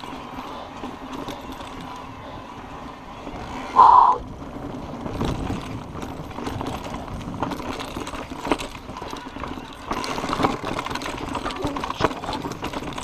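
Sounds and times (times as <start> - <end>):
bike rattling and knocking: 0.0 - 13.0
bike tyres rumbling over dirt: 0.0 - 13.0.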